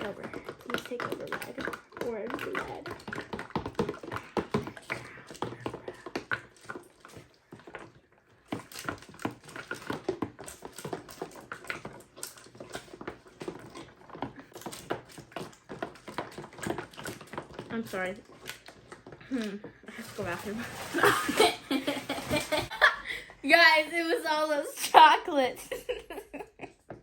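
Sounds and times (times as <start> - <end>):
slime being stirred: 0.0 - 22.8.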